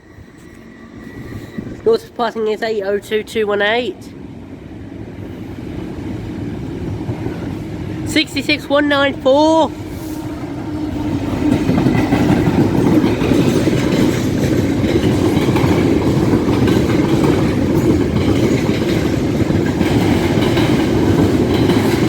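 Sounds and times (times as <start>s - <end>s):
diesel locomotive passing: 0.0s - 22.0s
wagons rumbling over rails: 0.0s - 22.0s.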